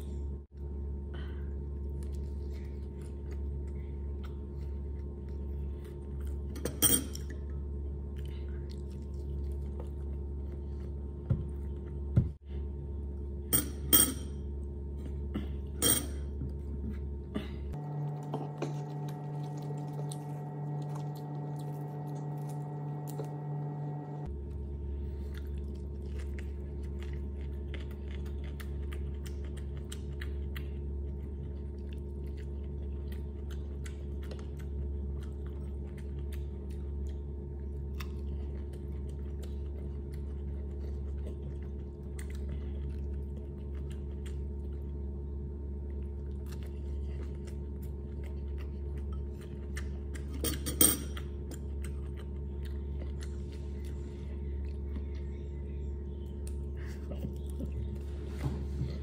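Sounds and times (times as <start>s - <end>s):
chewing and crunching food: 0.0s - 59.0s
low hum: 0.0s - 59.0s.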